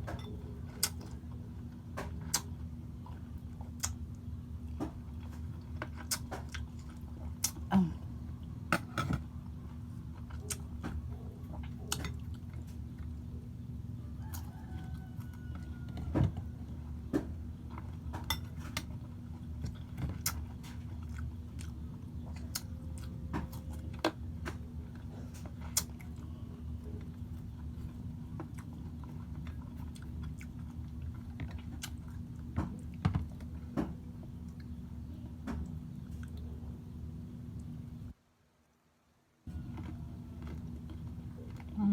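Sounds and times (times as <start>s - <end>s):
steady low hum: 0.0s - 38.3s, 39.2s - 41.9s
person chewing crunchy food: 0.4s - 34.8s, 39.5s - 41.8s.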